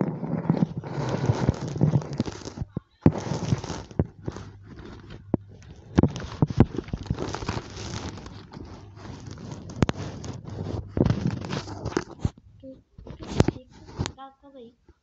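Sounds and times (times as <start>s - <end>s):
phone being handled: 0.0s - 12.4s, 13.0s - 14.2s
faint low hum: 0.0s - 15.0s.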